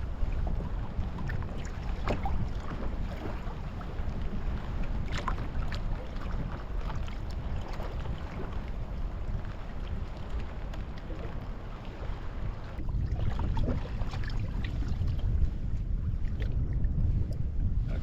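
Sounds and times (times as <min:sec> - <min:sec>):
knocks and splashes on kayak: 0:00.0 - 0:17.3
wind buffeting microphone: 0:00.0 - 0:18.0.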